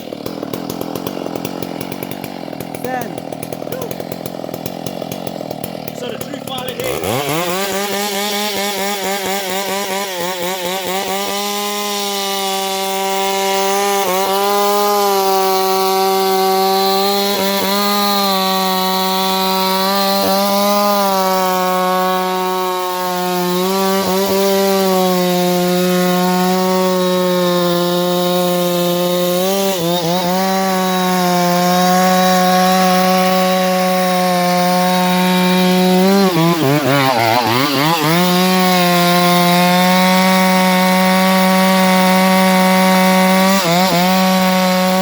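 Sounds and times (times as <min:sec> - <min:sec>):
chainsaw cutting through tree trunk: 0:00.0 - 0:45.0.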